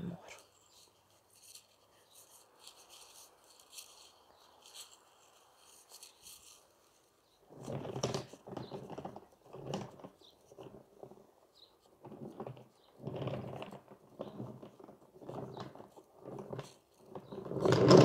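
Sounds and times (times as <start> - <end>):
faint rustling: 0.2 - 18.0.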